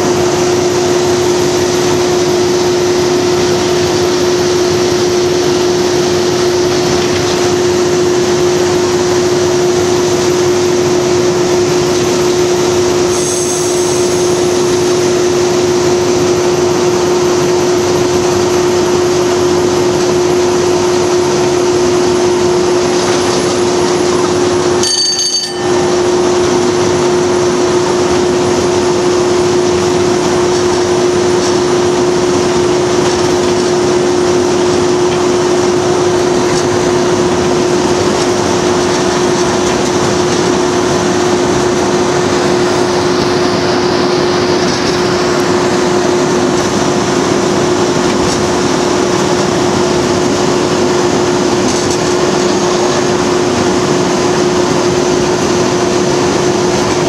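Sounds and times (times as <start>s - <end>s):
diesel locomotive engine running: 0.0s - 57.0s
wheels rumbling on track: 0.0s - 57.0s.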